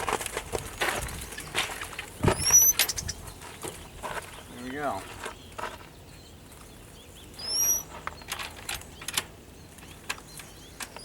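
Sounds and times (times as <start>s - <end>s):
birds fluttering and scuffling: 0.0s - 7.0s, 7.6s - 11.0s.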